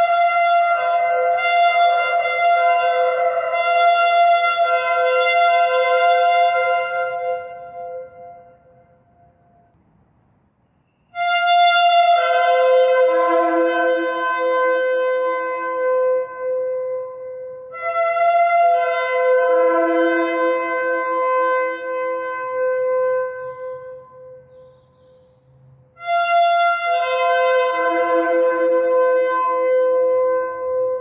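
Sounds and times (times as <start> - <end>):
shofar blasts: 0.0 - 9.7, 11.1 - 25.2, 26.0 - 31.0.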